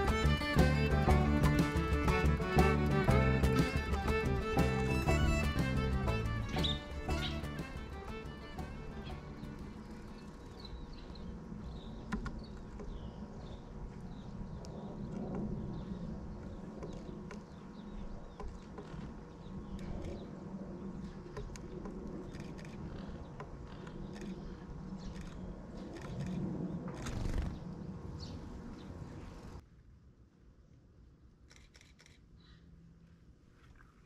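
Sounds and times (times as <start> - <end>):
low uneven rumble: 0.0 - 29.6.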